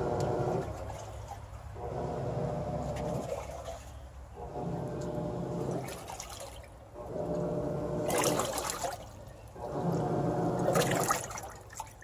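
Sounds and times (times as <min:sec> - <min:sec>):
washer motor humming: 0:00.0 - 0:01.1, 0:01.8 - 0:03.6, 0:04.4 - 0:11.6
water sloshing: 0:00.0 - 0:12.0.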